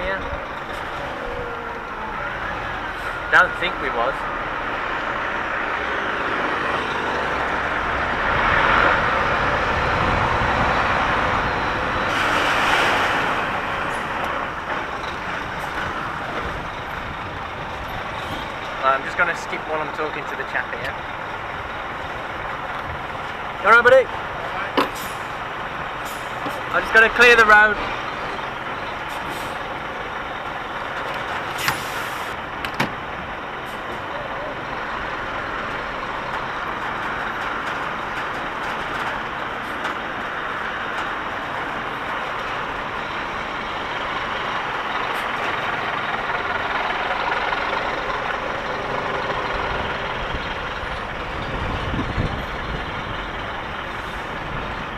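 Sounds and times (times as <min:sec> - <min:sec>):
lorry diesel engine running: 0:00.0 - 0:54.9
road noise: 0:00.0 - 0:54.9.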